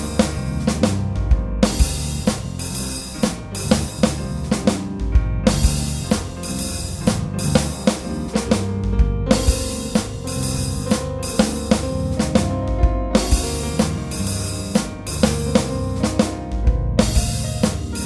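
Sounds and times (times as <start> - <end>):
deep bass line: 0.0 - 18.0
drum kit beat: 0.0 - 18.0.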